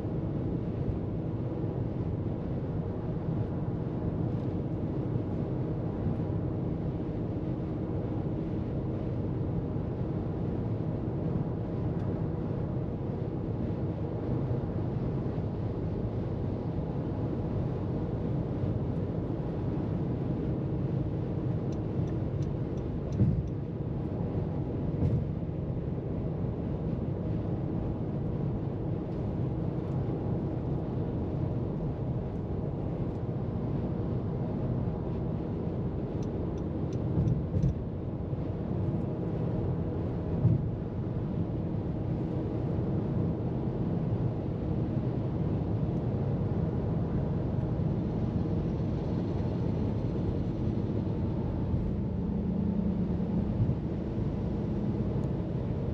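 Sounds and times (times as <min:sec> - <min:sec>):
car tyres and engine rumble: 0:03.4 - 0:55.9.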